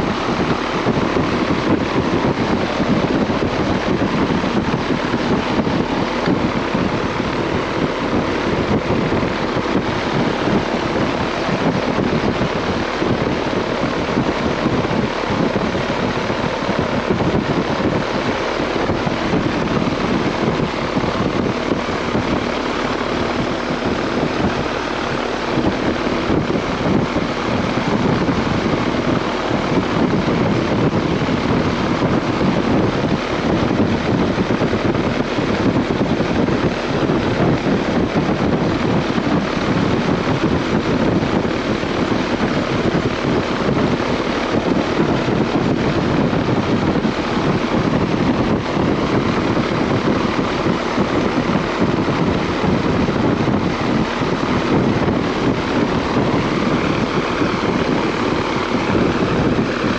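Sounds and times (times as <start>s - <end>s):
air-conditioner fan rushing air: 0.0s - 59.9s
compressor running: 0.0s - 59.9s.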